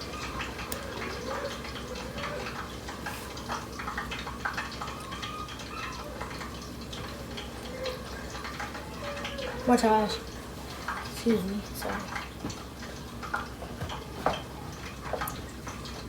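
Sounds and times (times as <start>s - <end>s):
hot oil sizzling and crackling: 0.0s - 16.0s.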